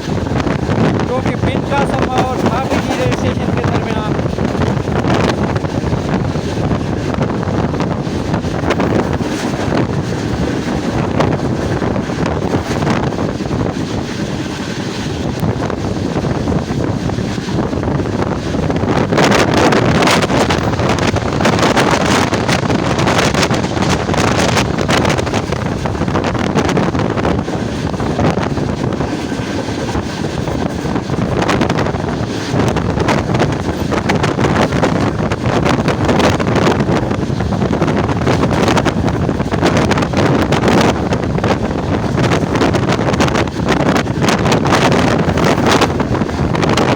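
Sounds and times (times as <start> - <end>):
train rumbling and clattering: 0.0 - 46.9
wind buffeting microphone: 0.0 - 46.9.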